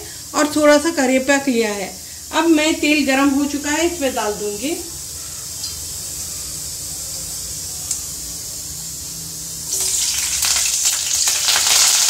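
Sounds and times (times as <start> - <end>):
gas burner hissing: 0.0 - 12.0.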